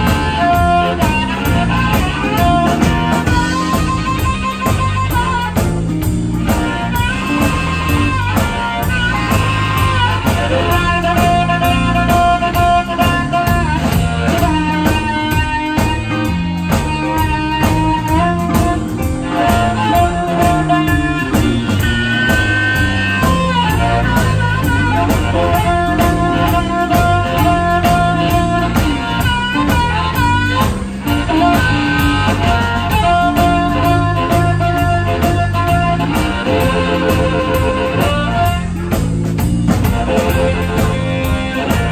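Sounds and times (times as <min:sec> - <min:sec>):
amplified harmonica: 0:00.0 - 0:41.9
bass guitar: 0:00.0 - 0:41.9
drums: 0:00.0 - 0:41.9
electric guitar: 0:00.0 - 0:41.9.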